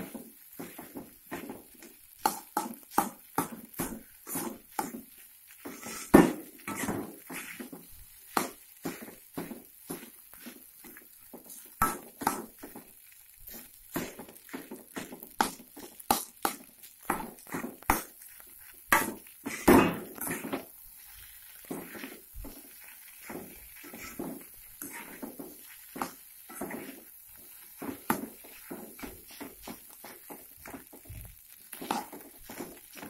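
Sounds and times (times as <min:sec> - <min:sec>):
metal spatula scraping a wok: 0:03.7 - 0:05.0, 0:05.6 - 0:12.8, 0:13.5 - 0:31.0, 0:31.6 - 0:33.0.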